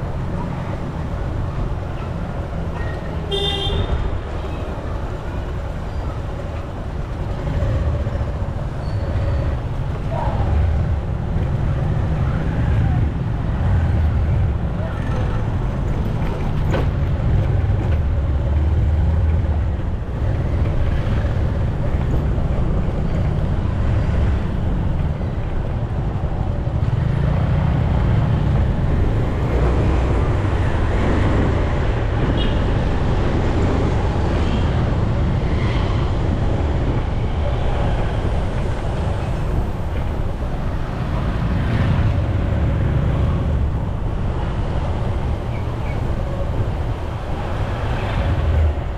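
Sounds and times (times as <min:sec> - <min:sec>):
vehicle engine and road rumble: 0:00.0 - 0:48.9.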